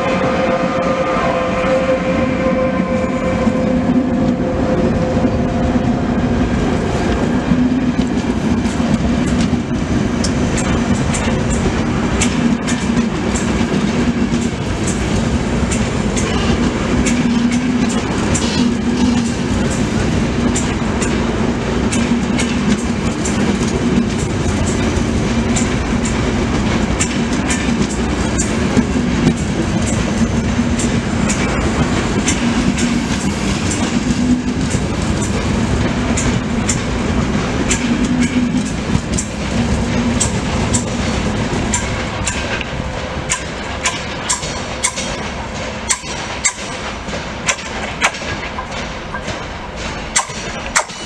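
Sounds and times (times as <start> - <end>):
train wheels rumbling: 0.0 - 51.0
wheels clacking over rail joints: 6.9 - 51.0.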